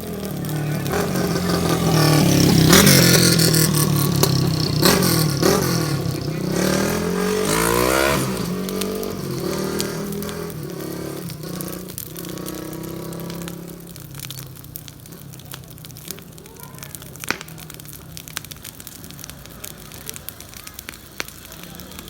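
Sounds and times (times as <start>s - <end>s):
vehicle engine revving: 0.0s - 21.9s
sharp cracks: 0.0s - 22.0s.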